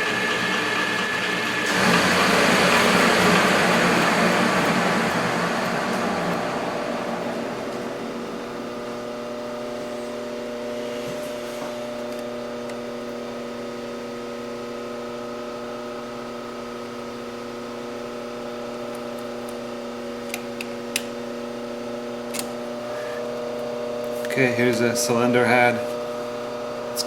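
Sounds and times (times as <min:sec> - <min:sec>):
metal lathe motor hum: 0:00.0 - 0:27.0.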